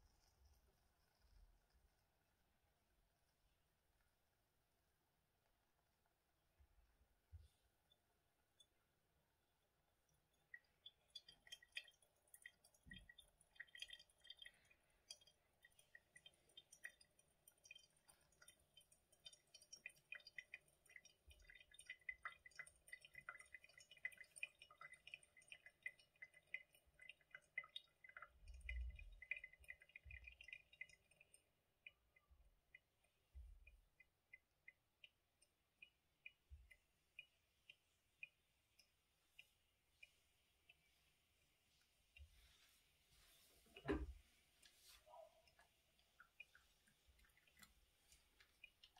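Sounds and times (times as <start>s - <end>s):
coffee dripping: 0.0s - 48.9s.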